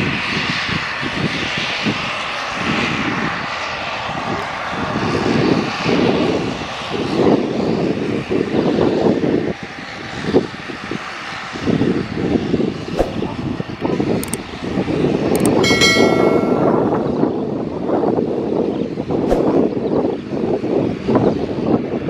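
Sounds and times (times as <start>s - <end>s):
turboprop engines running: 0.0s - 22.0s.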